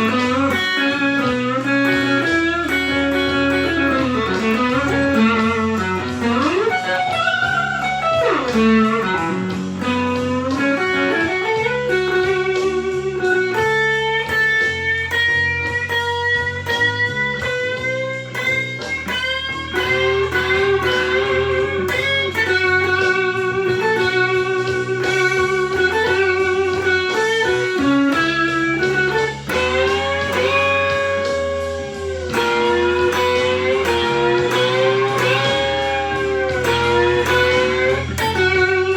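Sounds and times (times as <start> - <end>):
backing track with bass line: 0.0 - 38.9
overdriven electric guitar lead: 0.0 - 38.9.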